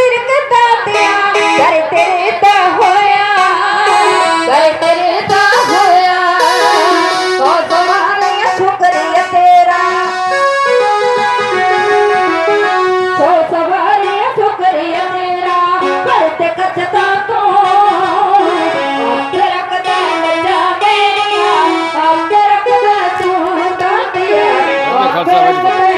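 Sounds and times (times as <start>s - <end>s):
women singing into microphones: 0.0s - 10.2s, 13.0s - 25.9s
electronic keyboard: 0.0s - 25.9s.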